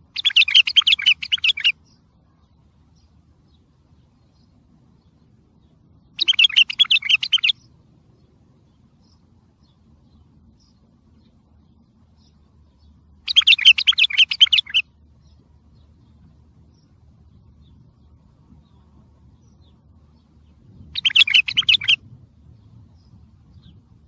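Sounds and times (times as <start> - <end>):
bulbul singing: 0.0 - 24.0.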